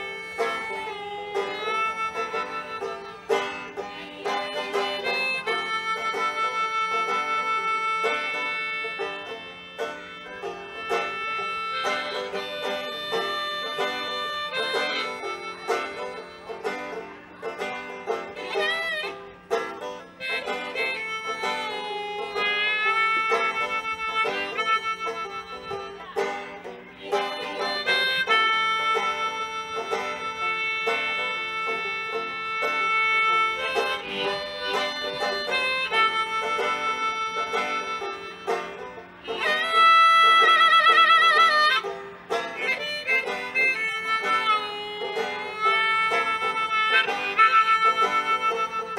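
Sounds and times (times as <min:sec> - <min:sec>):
banjo picking: 0:00.0 - 0:48.9
harmonica bending notes: 0:00.0 - 0:48.9.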